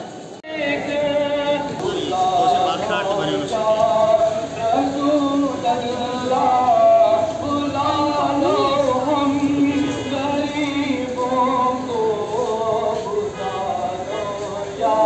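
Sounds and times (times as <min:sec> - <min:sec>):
voices singing devotional song: 0:00.0 - 0:15.0.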